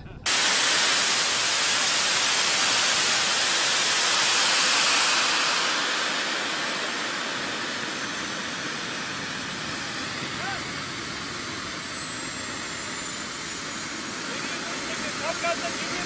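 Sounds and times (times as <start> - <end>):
high whine falling in pitch: 0.2 - 16.0
small jet engine hissing: 0.2 - 16.0.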